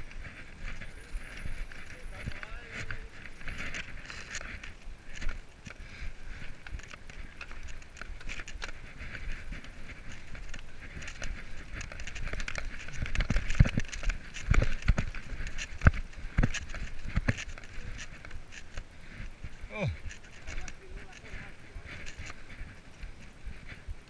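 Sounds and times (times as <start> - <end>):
bike rattling: 0.0 - 24.0
bike tyres rolling over dry leaves: 0.0 - 24.0.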